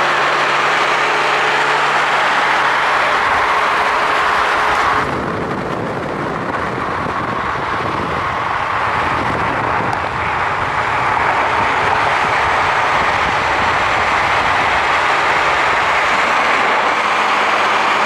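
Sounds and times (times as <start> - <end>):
cars driving past at speed: 0.0 - 18.0.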